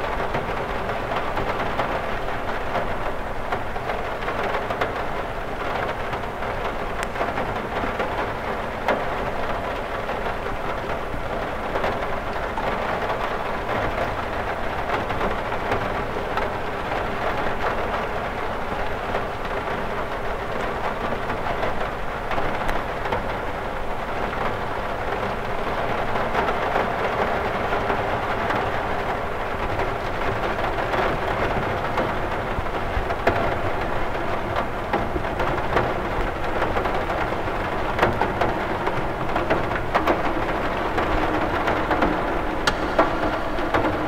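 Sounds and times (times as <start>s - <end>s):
rain on a window: 0.0s - 44.0s.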